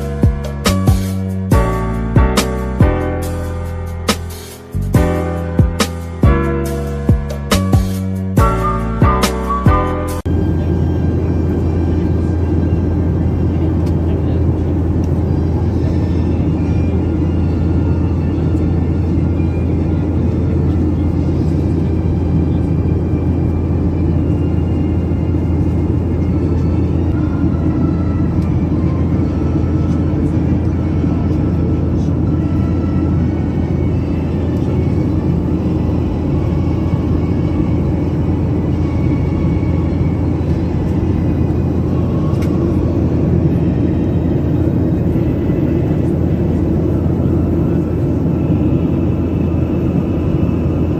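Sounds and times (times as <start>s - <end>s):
jet engine drone in cabin: 0.0s - 50.9s.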